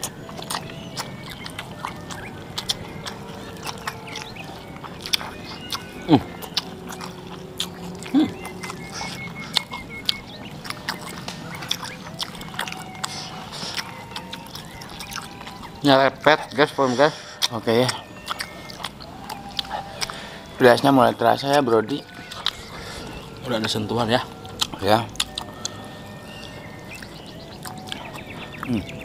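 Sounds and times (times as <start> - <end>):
chewing with mouth clicks: 0.0 - 29.0.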